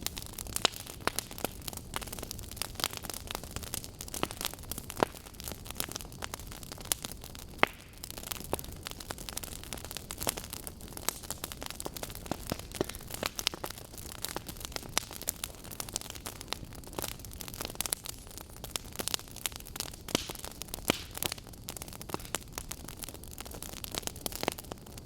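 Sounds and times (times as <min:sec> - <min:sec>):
burning logs crackling and popping: 0:00.0 - 0:25.0.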